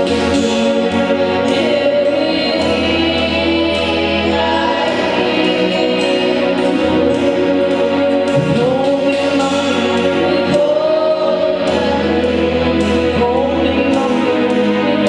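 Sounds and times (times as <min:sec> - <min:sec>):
group singing gospel music: 0:00.0 - 0:15.0.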